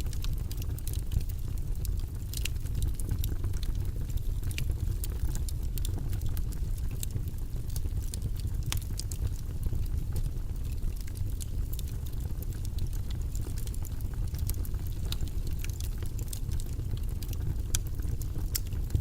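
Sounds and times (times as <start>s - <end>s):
low white noise: 0.0s - 19.0s.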